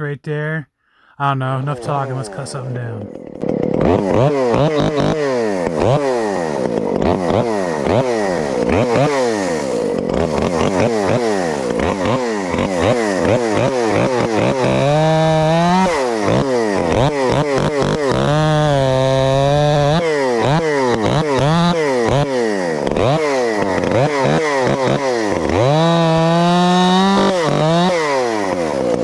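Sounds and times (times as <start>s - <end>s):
chainsaw revving: 1.8s - 29.0s.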